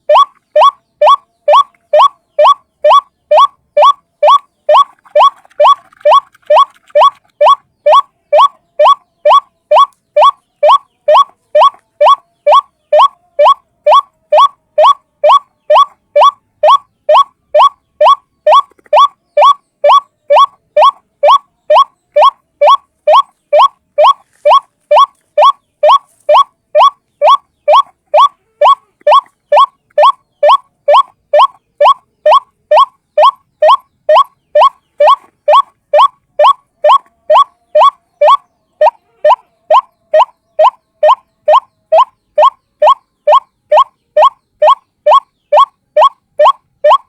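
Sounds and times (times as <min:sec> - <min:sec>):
waterhen calling: 0:00.0 - 0:47.0.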